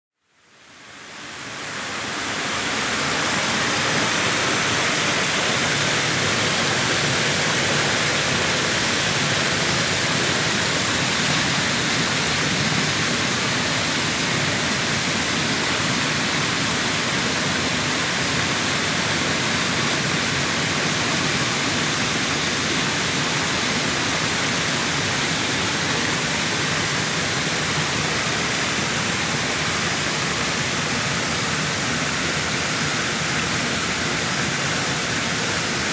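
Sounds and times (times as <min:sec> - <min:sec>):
steady rushing noise: 0:01.3 - 0:35.9.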